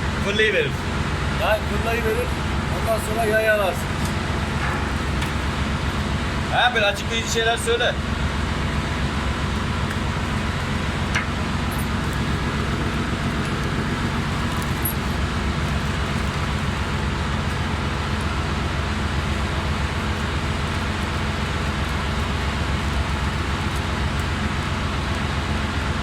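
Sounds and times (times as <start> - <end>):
engine-room machinery drone: 0.0 - 26.0.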